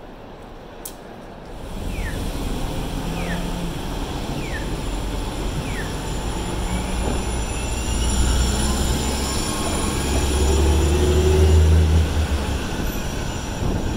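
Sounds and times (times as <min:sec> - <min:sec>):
bus engine droning: 0:01.5 - 0:13.8.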